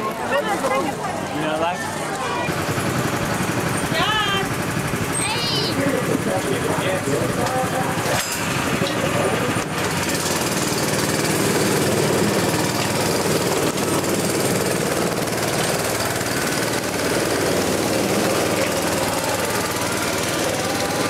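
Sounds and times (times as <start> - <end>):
go-kart engines running: 0.0 - 21.0.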